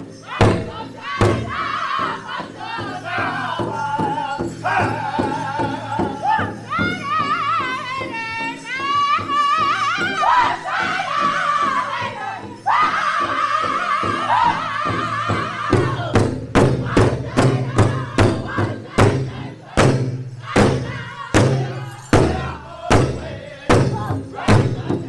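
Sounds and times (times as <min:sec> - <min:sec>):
group singing in high voices: 0:00.0 - 0:25.0
large hide drum beat: 0:00.0 - 0:25.0.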